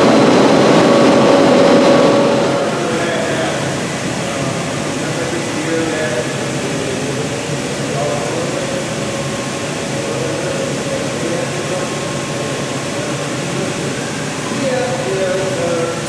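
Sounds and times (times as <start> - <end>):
indistinct voices talking: 0.0 - 16.0
machinery drone: 0.0 - 16.0.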